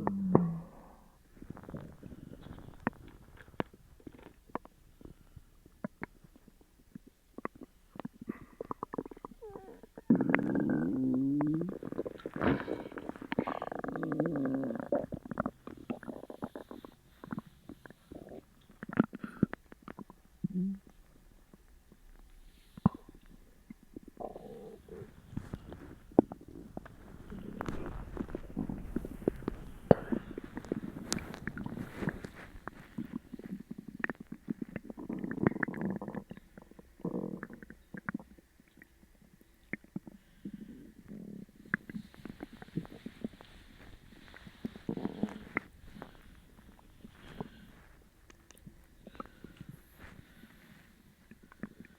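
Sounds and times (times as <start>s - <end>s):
stomach growling: 0.0s - 51.9s
stomach popping gurgles: 0.0s - 51.9s.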